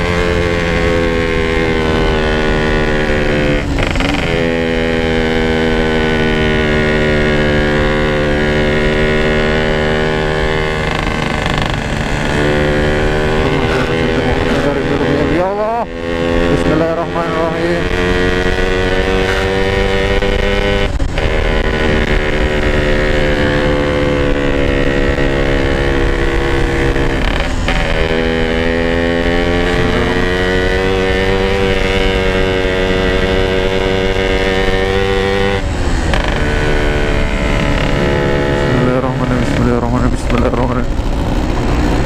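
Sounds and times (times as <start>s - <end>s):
two-stroke motorcycle engine: 0.0s - 42.0s.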